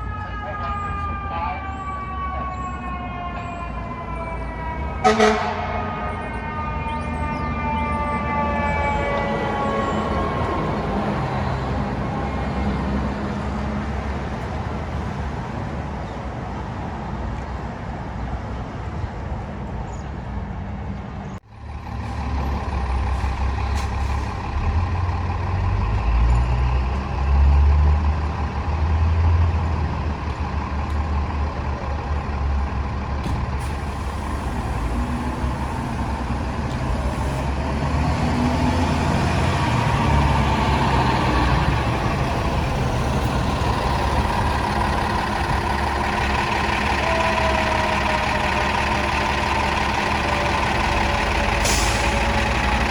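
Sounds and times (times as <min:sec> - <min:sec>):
heavy truck engine rumbling: 0:00.0 - 0:52.9.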